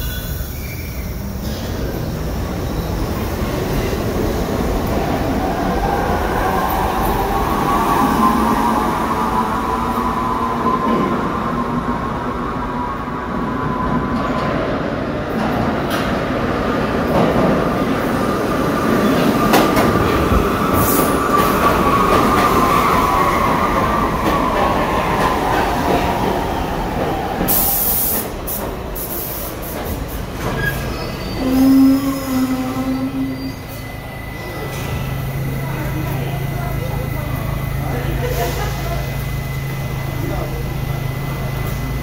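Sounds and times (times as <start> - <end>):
subway train whine: 0.0 - 42.0.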